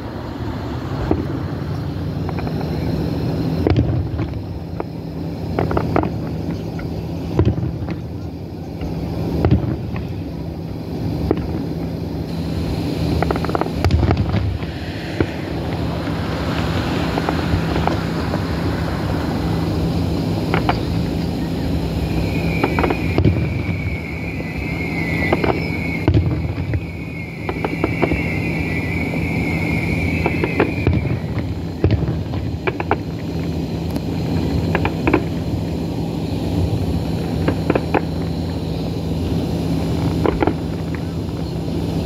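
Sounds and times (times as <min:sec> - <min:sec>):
fireworks bangs: 0:00.0 - 0:35.4, 0:36.9 - 0:41.6
high hiss: 0:00.0 - 0:42.0
wind rumble on microphone: 0:00.0 - 0:42.0.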